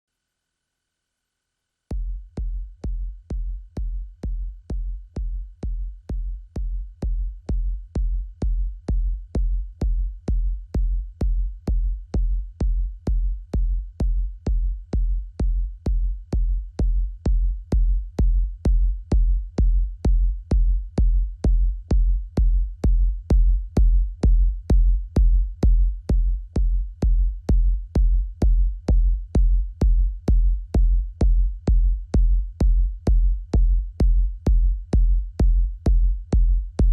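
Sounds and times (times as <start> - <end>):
techno kick drum: 1.9 - 36.9.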